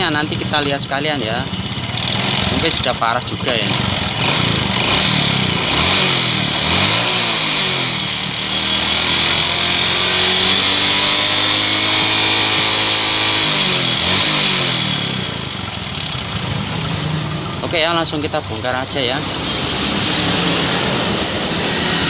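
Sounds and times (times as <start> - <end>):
engine rattle: 0.0 - 22.0
motorcycle engine revving: 0.0 - 22.0.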